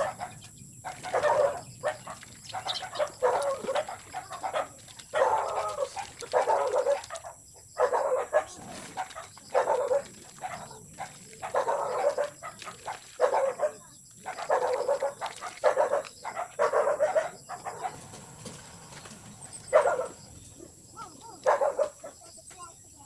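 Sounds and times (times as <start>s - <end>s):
animal calling: 0.0s - 22.2s.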